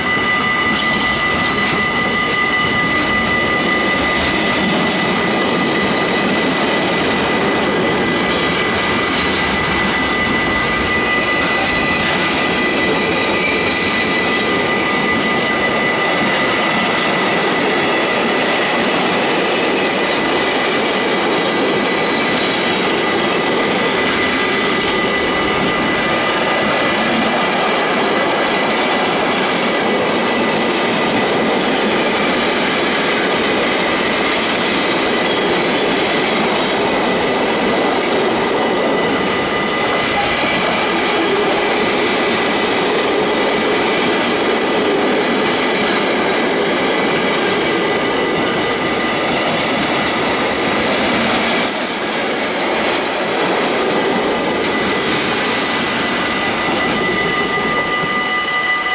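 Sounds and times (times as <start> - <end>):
high wheel squeal: 0.0 - 53.5, 54.1 - 58.9
train wheels rumbling on rails: 0.0 - 58.9.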